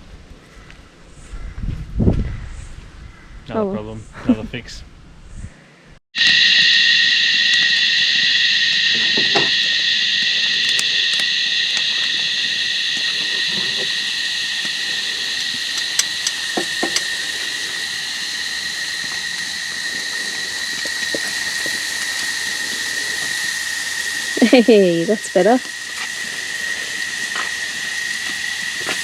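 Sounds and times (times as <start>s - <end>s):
insect chorus buzzing: 5.3s - 29.0s.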